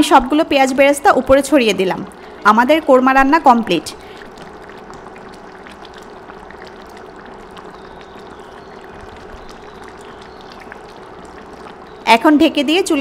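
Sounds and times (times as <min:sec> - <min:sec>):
faint steady hum: 0:00.0 - 0:13.0
gravy bubbling in a pan: 0:00.0 - 0:13.0.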